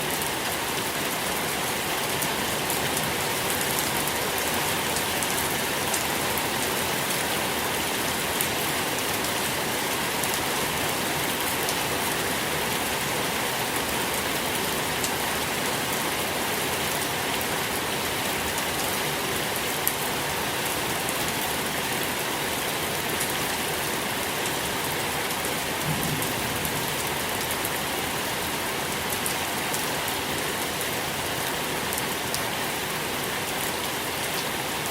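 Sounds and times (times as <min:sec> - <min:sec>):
soft rain falling: 0:00.0 - 0:34.9.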